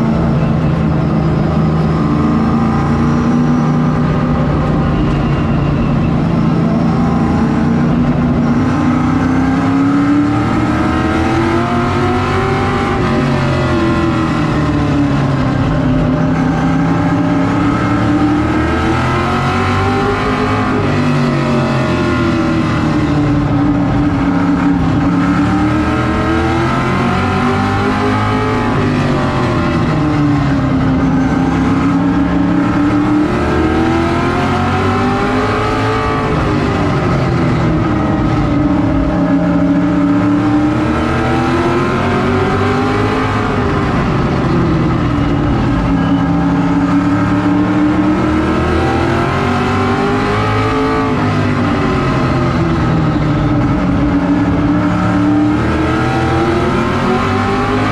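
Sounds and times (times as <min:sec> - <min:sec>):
race car engine: 0:00.0 - 0:57.9.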